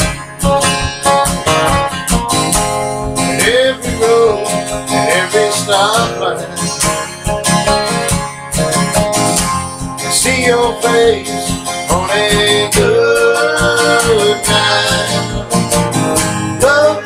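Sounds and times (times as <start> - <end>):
bending lead melody: 0.0 - 17.0
strummed acoustic guitar: 0.0 - 17.0.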